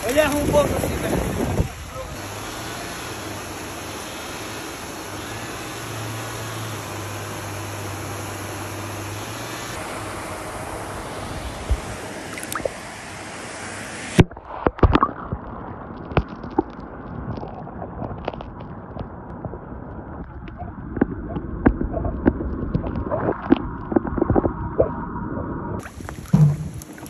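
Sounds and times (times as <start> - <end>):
rippling pond water: 0.0 - 27.0
wind: 0.0 - 27.0.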